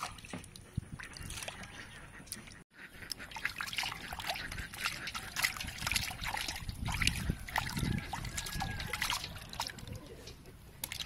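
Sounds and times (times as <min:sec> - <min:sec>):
water sloshing in a steel bowl: 0:00.0 - 0:11.0.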